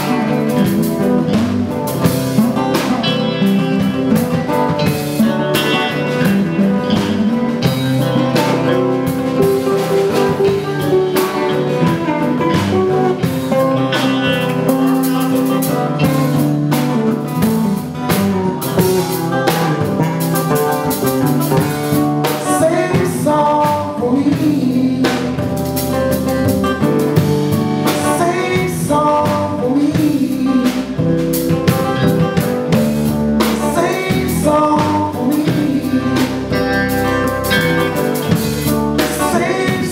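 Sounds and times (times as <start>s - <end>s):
acoustic guitar: 0.0s - 39.9s
bass guitar: 0.0s - 39.9s
drum kit: 0.0s - 39.9s
electric guitar: 0.0s - 39.9s.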